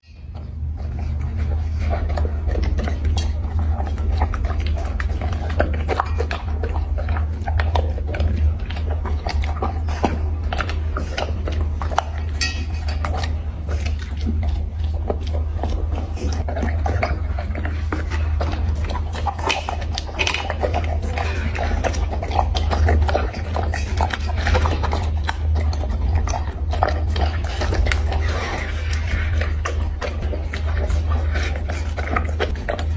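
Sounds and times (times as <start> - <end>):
dog chewing food: 0.0 - 32.9
steady low hum: 0.0 - 32.9.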